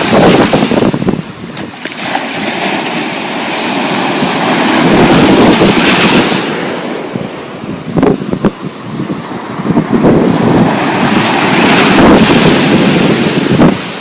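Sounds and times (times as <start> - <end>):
ocean wave washing: 0.0 - 14.0.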